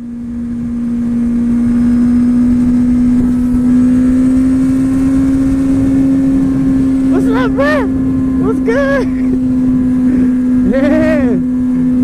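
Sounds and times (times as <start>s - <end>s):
motorcycle engine at high revs: 0.0s - 12.0s
road and wind noise: 0.0s - 12.0s.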